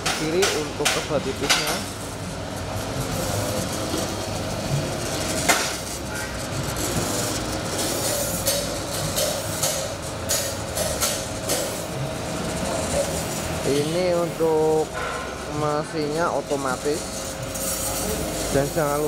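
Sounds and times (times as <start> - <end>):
slicing machine motor hum: 0.0 - 19.0.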